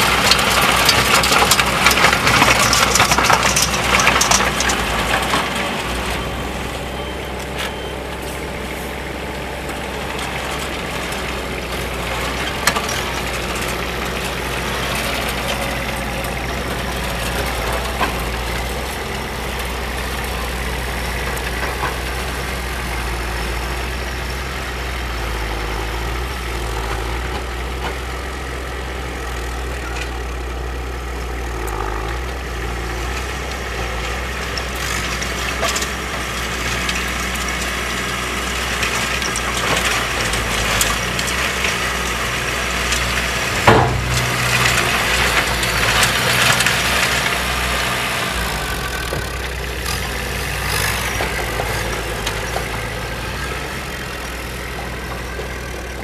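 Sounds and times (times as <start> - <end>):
diesel tractor engine: 0.0 - 56.0
tiller grinding soil and stones: 0.0 - 56.0.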